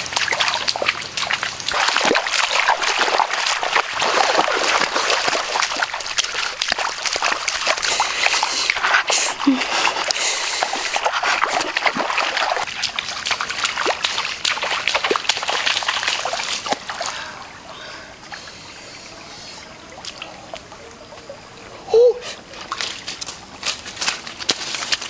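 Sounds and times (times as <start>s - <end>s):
footsteps splashing through mud: 0.0s - 17.4s, 22.3s - 25.0s.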